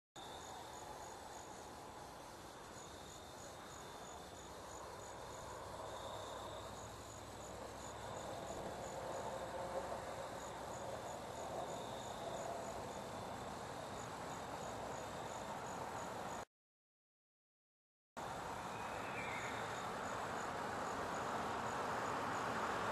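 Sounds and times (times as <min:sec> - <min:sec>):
faint steady hiss: 0:00.2 - 0:16.4, 0:18.2 - 0:22.9
crickets chirping: 0:00.2 - 0:16.5, 0:18.2 - 0:22.9
low drawn-out insect trill: 0:00.2 - 0:16.5, 0:18.2 - 0:22.9.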